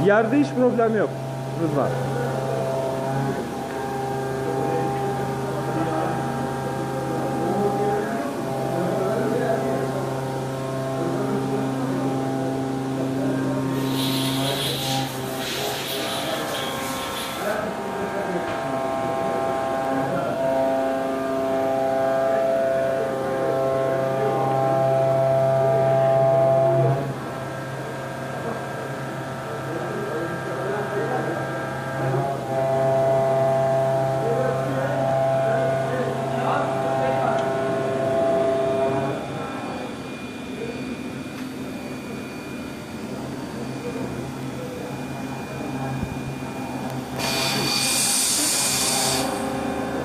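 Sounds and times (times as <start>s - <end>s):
machining center whine: 0.0s - 50.0s.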